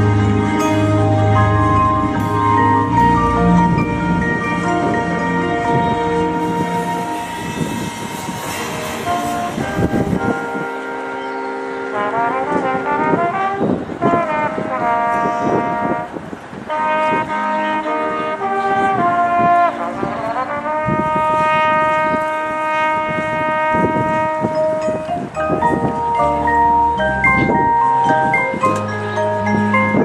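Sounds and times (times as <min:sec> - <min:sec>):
marching band brass chords: 0:00.0 - 0:30.0.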